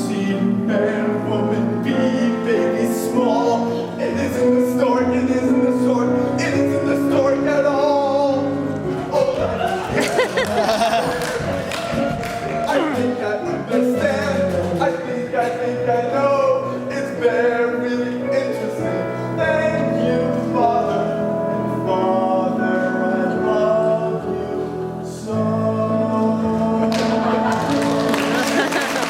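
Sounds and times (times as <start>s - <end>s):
people singing: 0.0s - 29.0s
theatre pit orchestra music: 0.0s - 29.0s.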